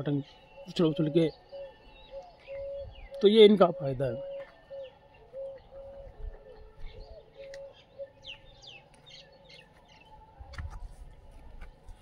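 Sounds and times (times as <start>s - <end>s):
bird cooing: 0.0s - 11.0s.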